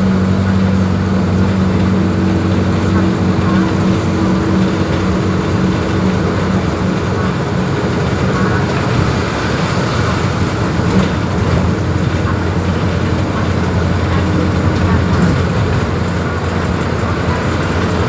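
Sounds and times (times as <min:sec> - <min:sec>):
bus diesel engine humming: 0:00.0 - 0:18.0.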